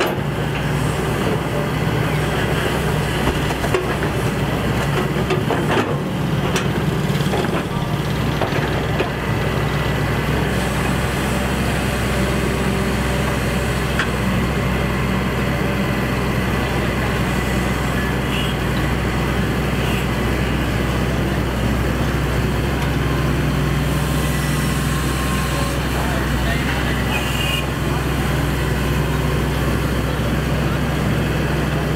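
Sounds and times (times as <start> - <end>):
excavator diesel engine humming: 0.0 - 31.9.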